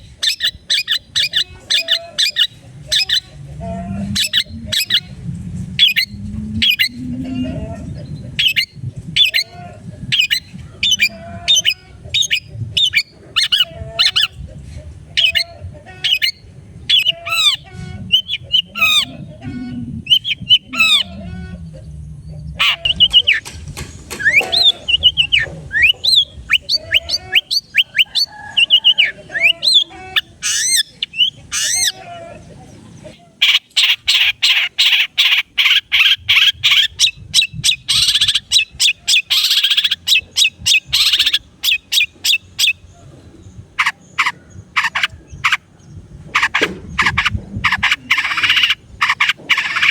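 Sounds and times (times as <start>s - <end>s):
bird song: 0.0s - 3.5s, 5.8s - 14.5s, 15.1s - 49.9s
harsh bird chattering: 0.0s - 5.1s, 5.8s - 32.2s, 33.0s - 49.9s.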